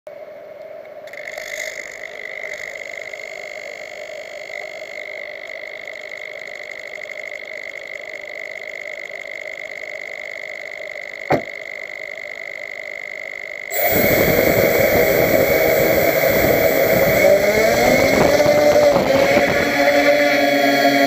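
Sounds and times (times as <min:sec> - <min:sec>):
quadcopter electric whine: 0:01.2 - 0:21.0.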